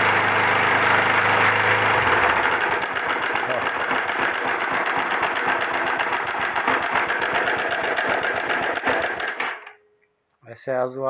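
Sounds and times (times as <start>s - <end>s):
motorcycle engine with ticking clatter: 0.0s - 9.8s.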